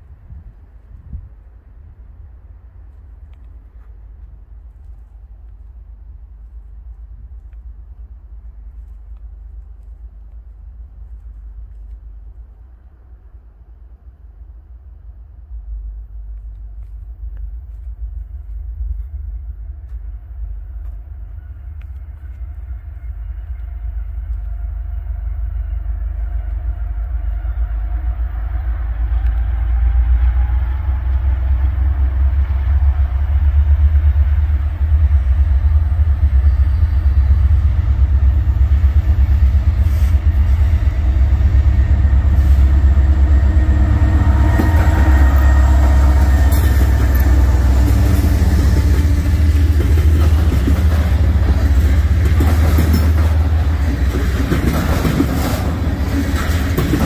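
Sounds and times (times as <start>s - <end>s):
locomotive engine rumble: 0.0s - 57.0s.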